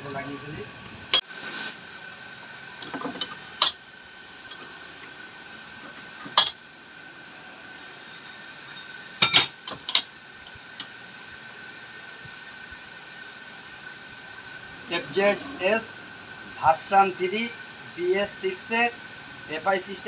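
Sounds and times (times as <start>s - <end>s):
faint high hum: 0.0s - 1.2s, 1.8s - 20.0s.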